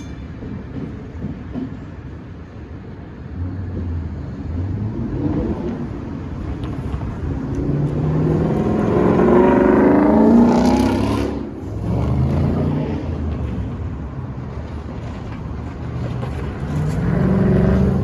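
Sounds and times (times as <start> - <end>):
heavy vehicle engine rumble passing: 3.2 - 18.0.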